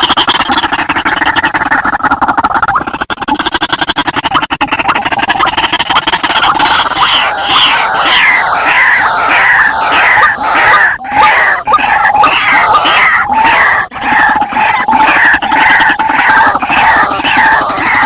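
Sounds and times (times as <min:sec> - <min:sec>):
waterhen calling harsh notes: 0:00.0 - 0:18.0.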